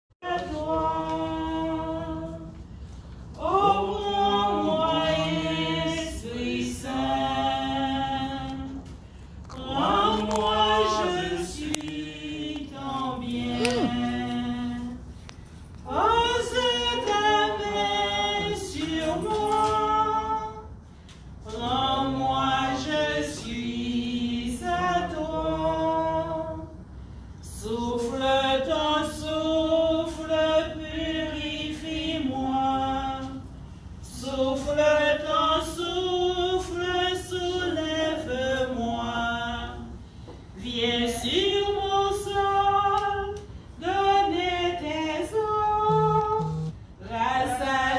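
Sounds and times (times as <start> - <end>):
group singing unaccompanied: 0.2 - 2.7, 3.4 - 15.2, 15.8 - 20.8, 21.4 - 26.8, 27.4 - 40.0, 40.6 - 47.9.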